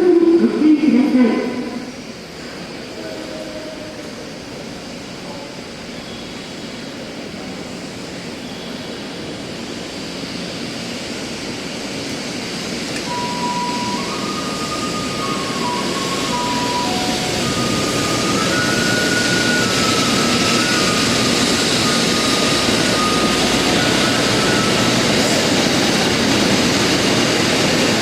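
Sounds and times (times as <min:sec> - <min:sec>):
train running: 0:00.0 - 0:28.0.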